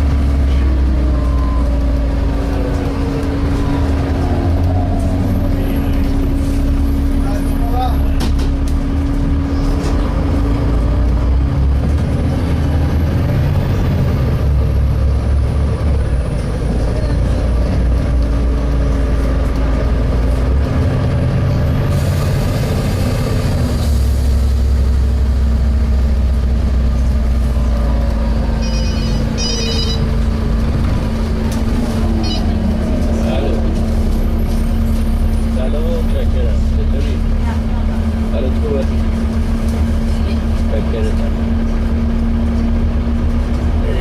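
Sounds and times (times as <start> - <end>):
bus diesel engine running: 0.0 - 44.0.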